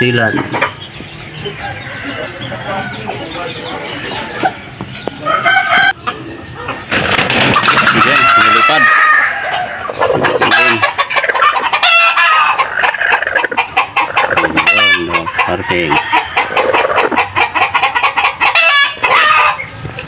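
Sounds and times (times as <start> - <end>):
chickens clucking: 0.0 - 20.0
drawn-out chicken calls: 0.0 - 20.0.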